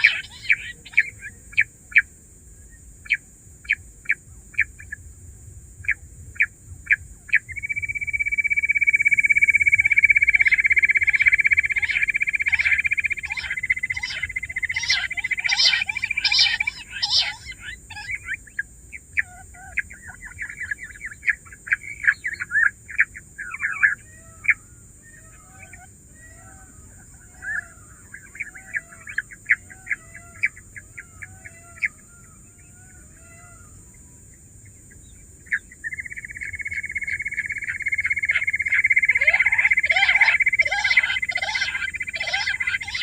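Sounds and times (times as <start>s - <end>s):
quail calling: 0.0s - 1.7s, 6.9s - 34.0s, 35.5s - 43.0s.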